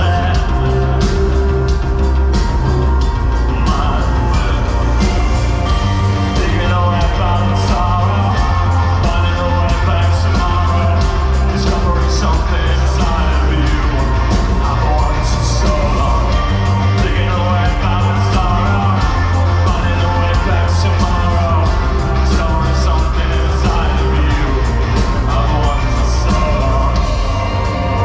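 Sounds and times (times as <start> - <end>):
live band playing: 0.0 - 28.0
person singing: 0.0 - 28.0.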